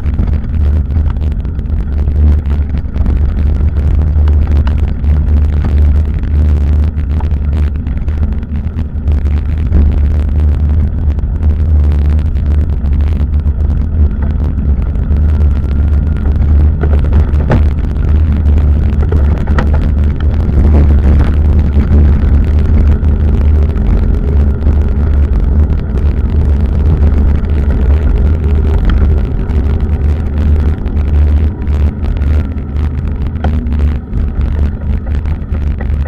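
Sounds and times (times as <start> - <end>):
road vibration: 0.0 - 36.0
wind buffeting microphone: 0.0 - 36.0.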